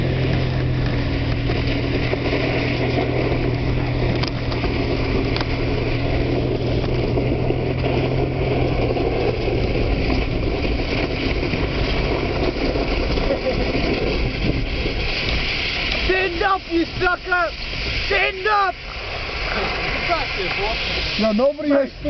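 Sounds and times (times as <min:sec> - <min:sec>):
car engine hum: 0:00.0 - 0:22.0
tyre and wind noise: 0:00.0 - 0:22.0.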